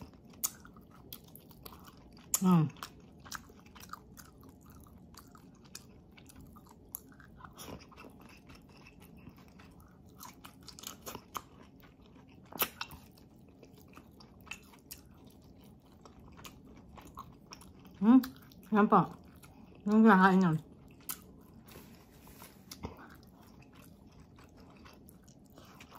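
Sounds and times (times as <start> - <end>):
close chewing: 0.0 - 25.9.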